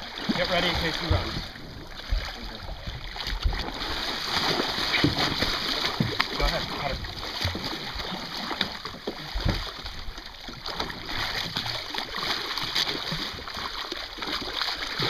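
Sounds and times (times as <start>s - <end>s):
sea water splashing: 0.0s - 15.0s.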